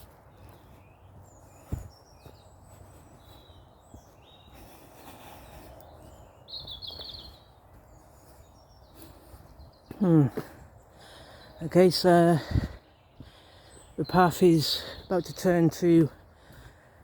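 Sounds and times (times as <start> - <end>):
small birds singing: 0.0 - 17.0.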